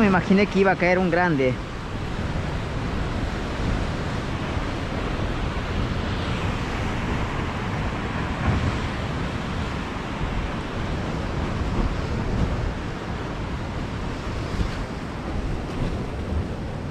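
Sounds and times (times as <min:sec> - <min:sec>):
ocean surf breaking against rocks: 0:00.0 - 0:16.9.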